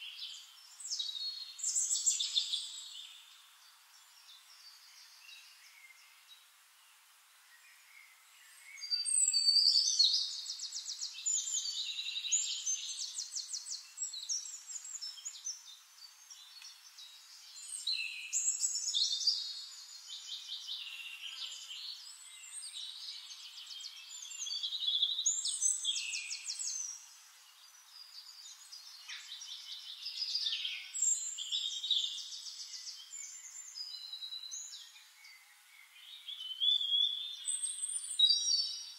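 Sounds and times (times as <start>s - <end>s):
faint hiss: 0.0s - 38.9s
songbirds warbling: 0.0s - 38.9s.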